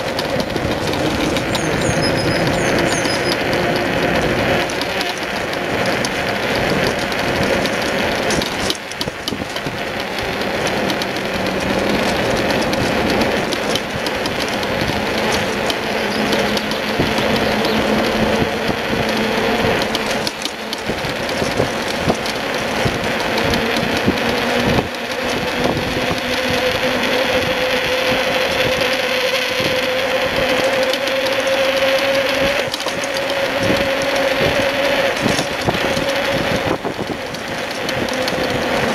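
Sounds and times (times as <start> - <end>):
frame rattling and clicking: 0.0 - 38.9
trailer wheels rolling on pavement: 0.0 - 38.9.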